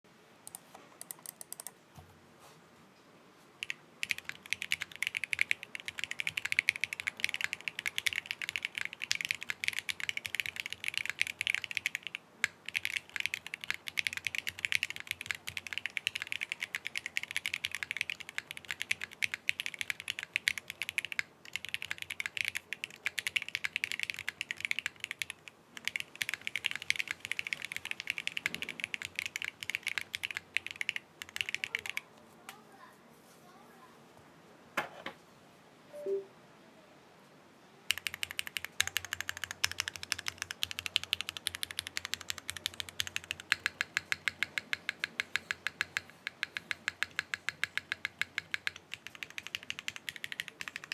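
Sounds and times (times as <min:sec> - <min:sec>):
mechanical keyboard typing: 0:00.5 - 0:01.8, 0:03.6 - 0:32.6, 0:37.9 - 0:50.9.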